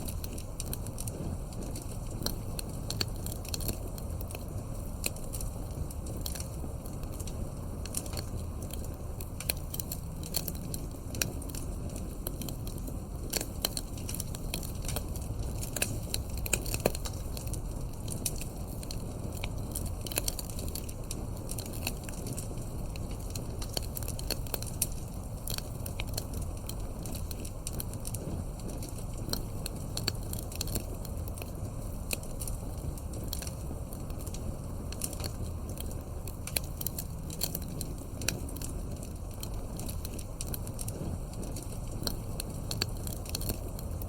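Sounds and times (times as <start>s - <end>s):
fire popping and snapping: 0.0s - 44.0s
low rumble of burning logs: 0.0s - 44.0s.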